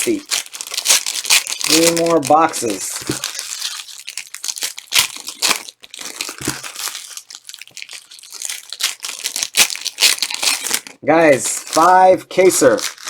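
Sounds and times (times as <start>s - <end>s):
plastic wrapping tearing and crinkling: 0.0s - 13.0s.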